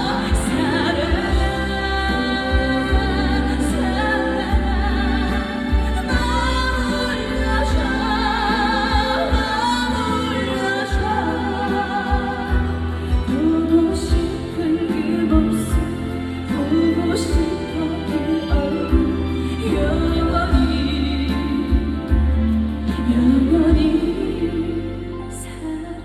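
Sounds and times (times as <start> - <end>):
amplified backing track: 0.0 - 26.0
woman singing with vibrato: 0.0 - 26.0.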